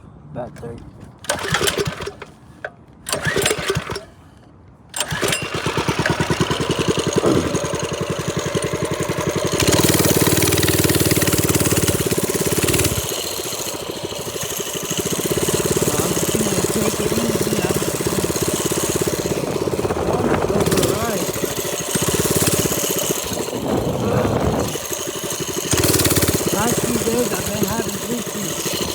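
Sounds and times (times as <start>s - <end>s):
small minibike engine running: 1.2s - 2.3s, 3.1s - 4.2s, 5.0s - 28.9s.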